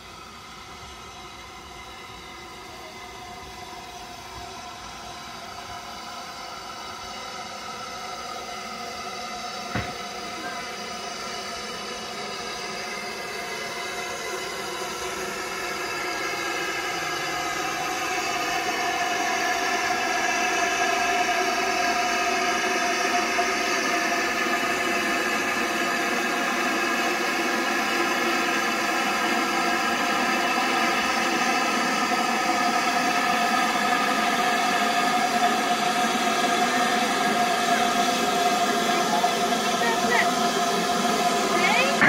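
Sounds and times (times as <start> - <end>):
steam hissing: 0.0 - 42.0.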